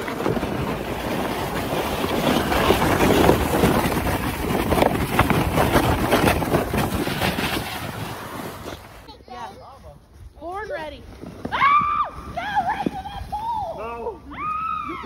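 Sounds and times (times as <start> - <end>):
sled scraping over packed snow: 0.0 - 15.0.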